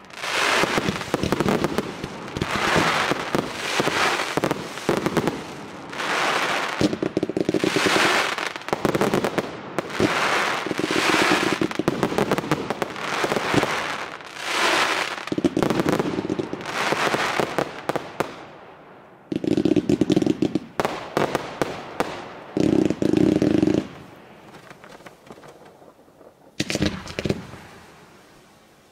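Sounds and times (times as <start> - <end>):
fireworks bursting and crackling: 0.0 - 28.9.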